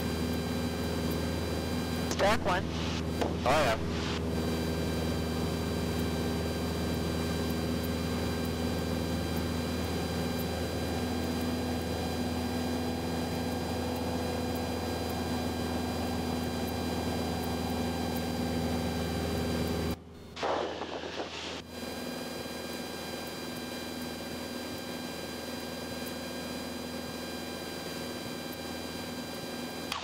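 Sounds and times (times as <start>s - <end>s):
airplane engine drone in cabin: 0.0s - 30.0s.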